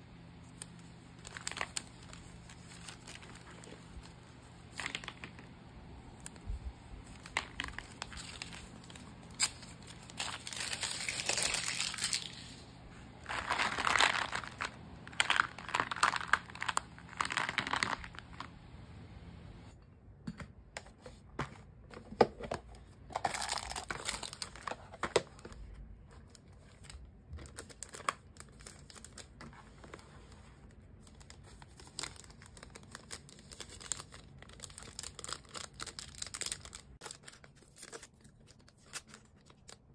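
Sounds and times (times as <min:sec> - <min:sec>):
packaging crinkling: 0:00.4 - 0:18.5, 0:23.1 - 0:30.0, 0:30.7 - 0:39.9.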